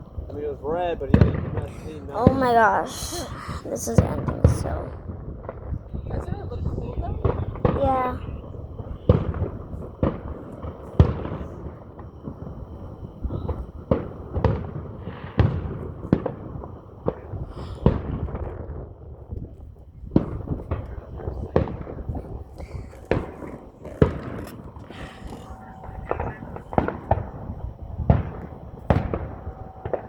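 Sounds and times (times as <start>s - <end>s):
fireworks bangs with rumble: 0.0s - 2.6s, 3.9s - 30.0s.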